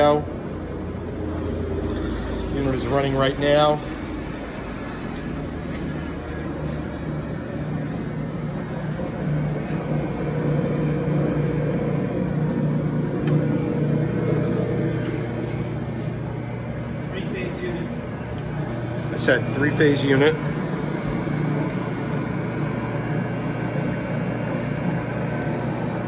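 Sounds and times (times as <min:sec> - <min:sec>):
mixer motor humming: 0:00.0 - 0:26.0.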